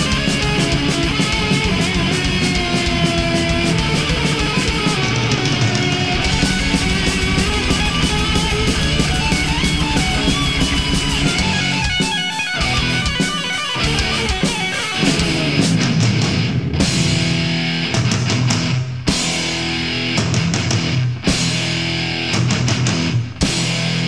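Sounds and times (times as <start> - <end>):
fast drum beat: 0.0 - 19.5
bass guitar: 0.0 - 24.0
distorted electric guitars: 0.0 - 24.0.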